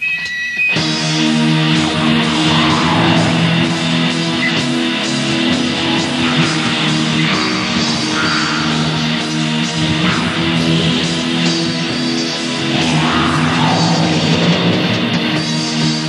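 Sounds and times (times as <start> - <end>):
strummed electric guitar chords: 0.6 - 16.0
black metal band playing: 0.7 - 16.0.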